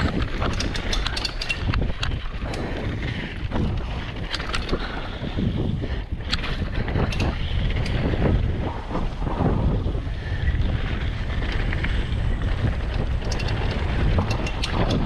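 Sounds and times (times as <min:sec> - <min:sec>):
bike clicking and rattling: 0:00.0 - 0:15.0
wind rushing over microphone: 0:00.0 - 0:15.0.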